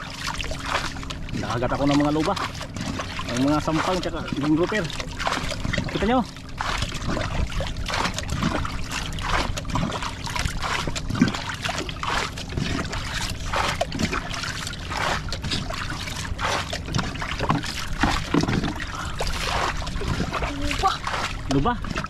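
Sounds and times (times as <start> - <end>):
water lapping against boat hull: 0.0 - 22.0.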